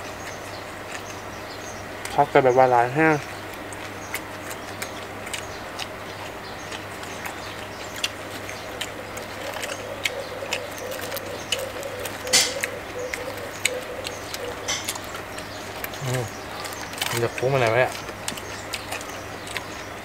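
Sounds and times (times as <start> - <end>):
crunchy food chewing: 0.0 - 20.0.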